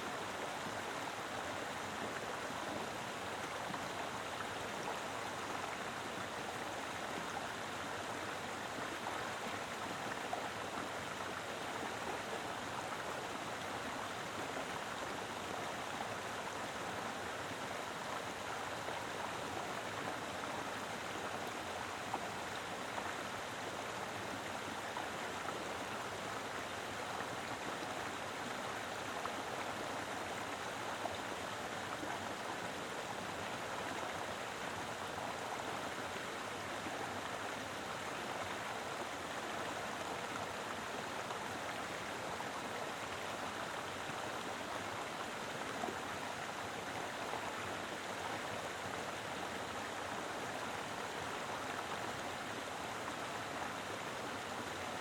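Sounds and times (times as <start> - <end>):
mountain river rushing and splashing: 0.0 - 55.0.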